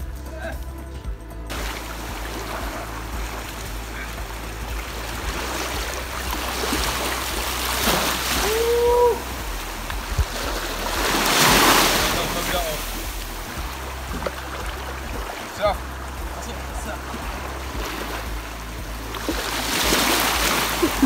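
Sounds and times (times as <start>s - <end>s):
seawater sloshing and splashing: 1.5s - 21.0s.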